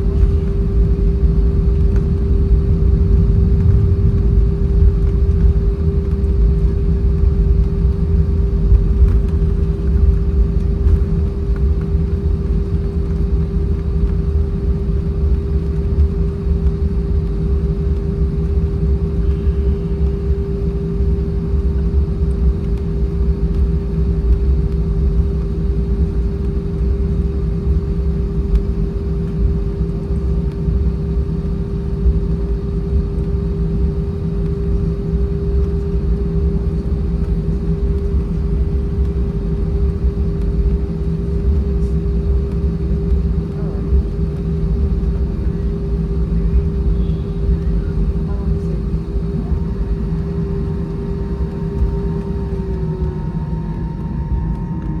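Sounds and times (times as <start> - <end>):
jet engines humming at idle: 0.0 - 55.0
low rumble of wheels and airframe: 0.0 - 55.0.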